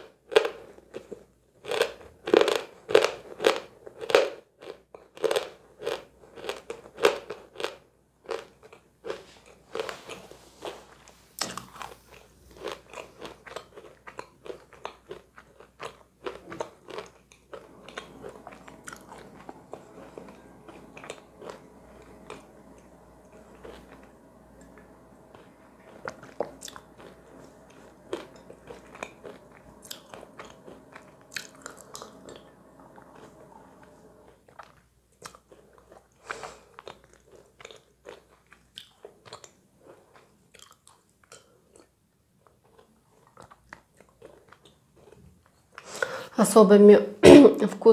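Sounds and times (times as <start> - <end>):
soft chewing: 0.3 - 46.2.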